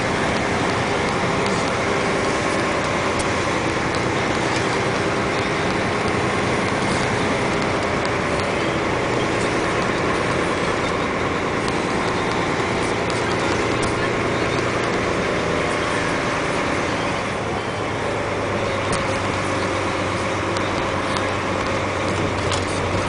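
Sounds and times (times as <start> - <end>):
diesel truck engine: 0.0 - 23.0
road and tyre noise: 0.0 - 23.0.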